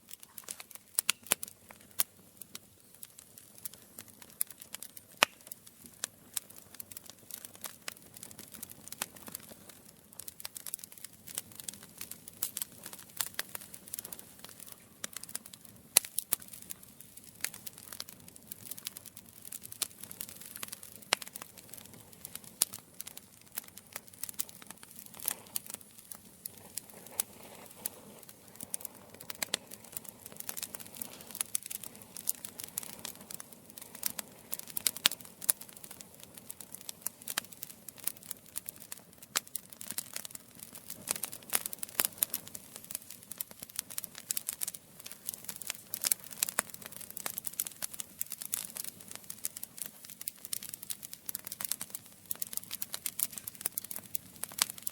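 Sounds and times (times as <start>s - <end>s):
campfire crackling and popping: 0.0s - 54.9s
soft steady hiss: 0.0s - 54.9s.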